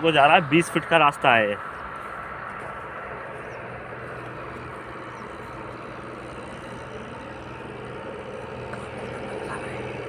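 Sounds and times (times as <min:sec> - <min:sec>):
engine humming: 0:00.0 - 0:10.0
outdoor background noise: 0:00.0 - 0:10.0.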